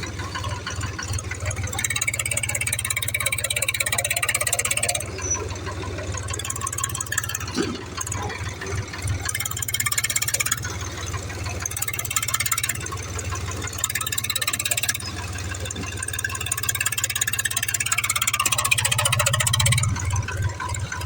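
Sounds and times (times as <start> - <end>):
tractor engine pulsing steadily: 0.0 - 21.0.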